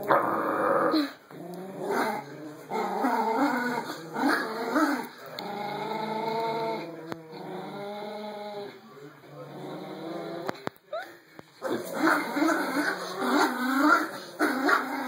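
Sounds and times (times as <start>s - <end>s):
puppies growling: 0.0s - 10.6s, 11.6s - 15.0s.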